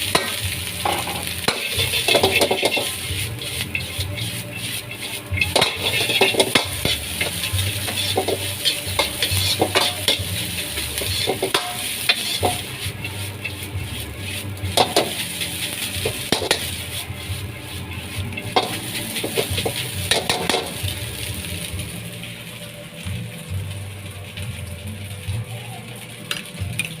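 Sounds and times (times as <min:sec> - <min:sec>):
metal clanks and scrapes on wok: 0:00.0 - 0:27.0
rice sizzling in wok: 0:00.0 - 0:27.0.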